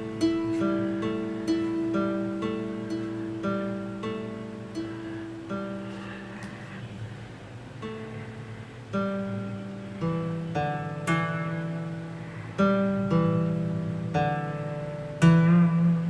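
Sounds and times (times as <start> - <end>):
slow acoustic guitar chords: 0.0 - 16.0.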